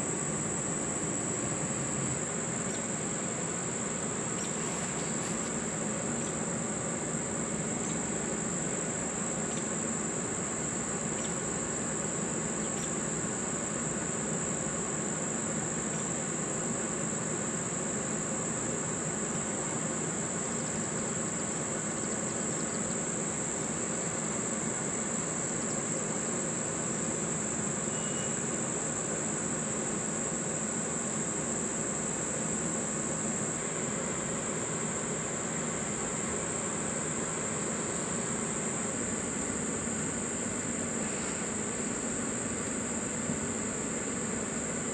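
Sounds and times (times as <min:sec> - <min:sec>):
insects singing drone: 0:00.0 - 0:44.9
low background hum: 0:00.0 - 0:44.9.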